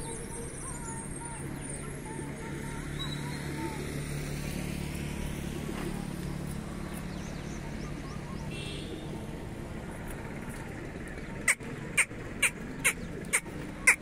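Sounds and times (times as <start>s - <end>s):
low outdoor background hum: 0.0s - 14.0s.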